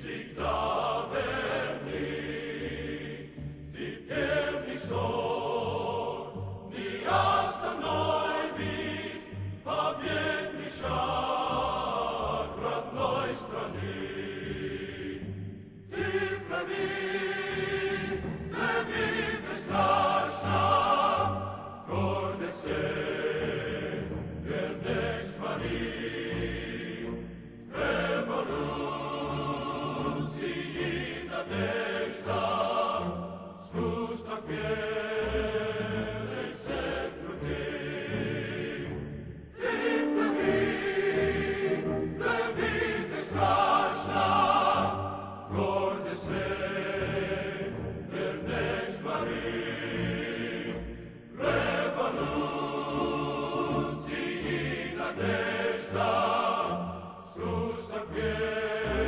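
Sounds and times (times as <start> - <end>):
choir singing held notes: 0.0 - 59.0.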